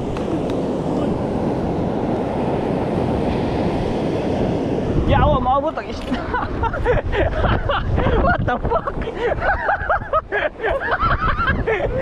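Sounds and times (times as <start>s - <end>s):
surf washing onto beach: 0.0s - 12.0s
wind buffeting microphone: 0.0s - 12.0s.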